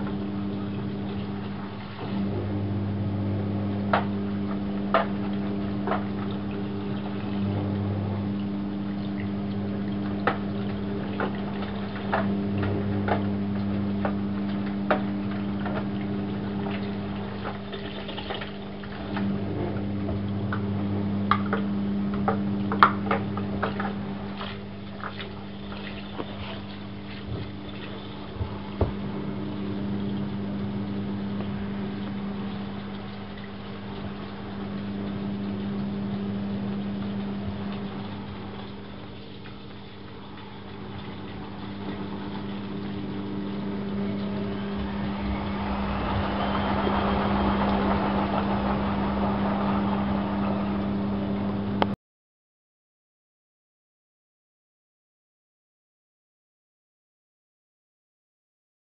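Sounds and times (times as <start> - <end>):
washing machine hum: 0.0 - 52.0
water gushing into drum: 0.0 - 52.0
water splashes and drips: 3.8 - 52.0.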